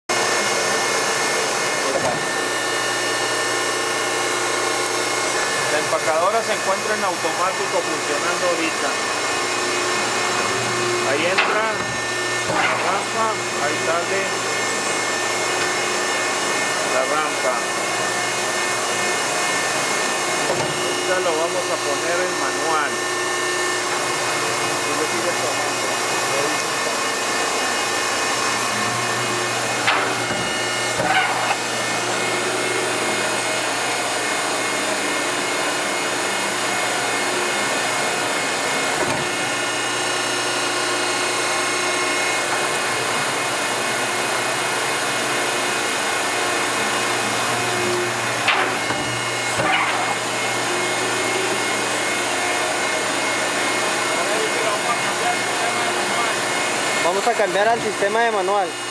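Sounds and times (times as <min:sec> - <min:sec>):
hydraulic power unit running: 0:00.1 - 0:58.9.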